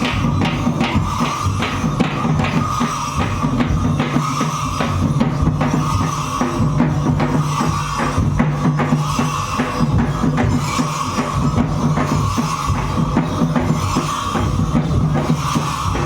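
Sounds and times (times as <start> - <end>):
drum-driven dance music: 0.0 - 16.0.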